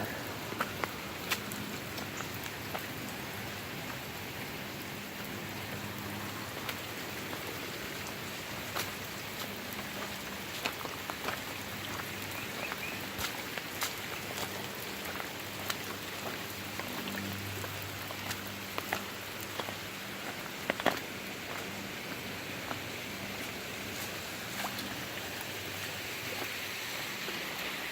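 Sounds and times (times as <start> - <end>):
steady rain: 0.0 - 27.9.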